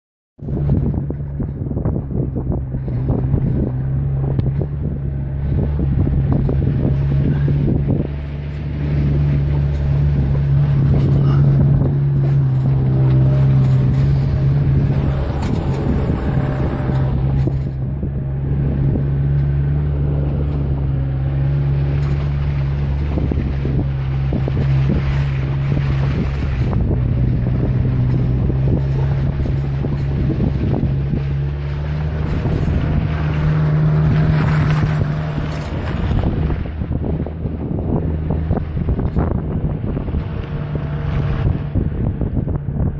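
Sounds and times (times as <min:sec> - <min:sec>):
car engine running: 0:00.4 - 0:42.9
wind noise on microphone: 0:00.4 - 0:42.9.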